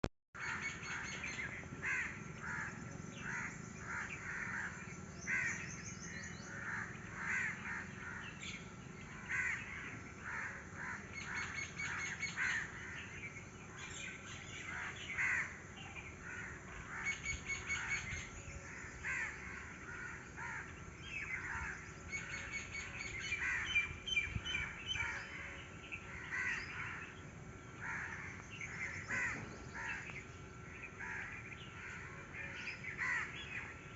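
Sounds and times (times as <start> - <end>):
birds calling harshly: 0.4 - 33.9.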